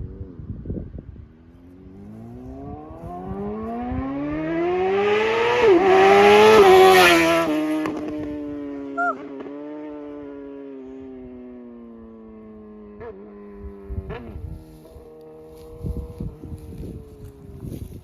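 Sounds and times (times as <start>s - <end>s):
motorcycle accelerating hard: 0.0s - 18.0s.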